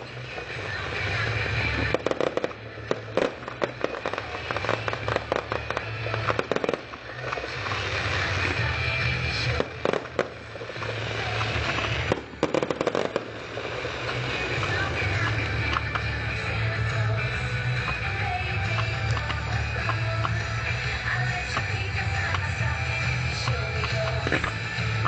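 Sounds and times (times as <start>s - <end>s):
fireworks crackling and banging: 0.0s - 25.0s.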